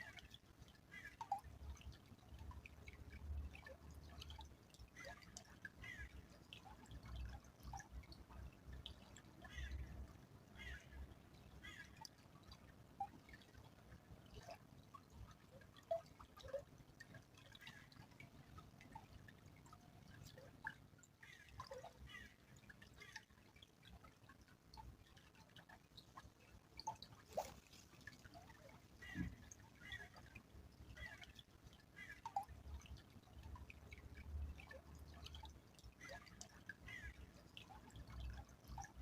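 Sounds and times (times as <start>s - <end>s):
stream trickling faintly: 0.0s - 39.0s
water drips and plinks: 0.0s - 39.0s.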